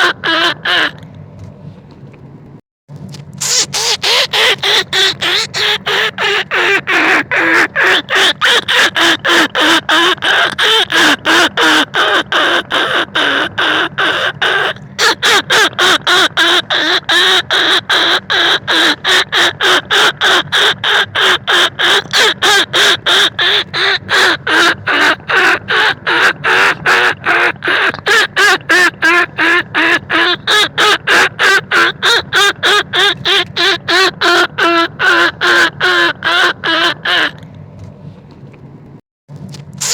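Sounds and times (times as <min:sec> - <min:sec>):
wavering animal calls: 0:00.0 - 0:01.0, 0:03.4 - 0:37.5.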